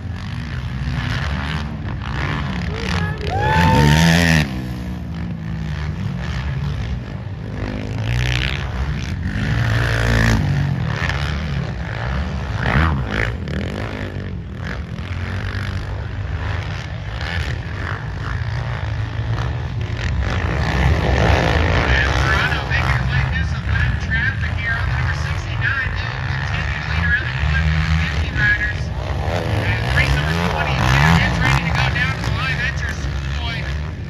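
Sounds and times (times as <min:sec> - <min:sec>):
racing quad engines revving: 0:00.0 - 0:34.0.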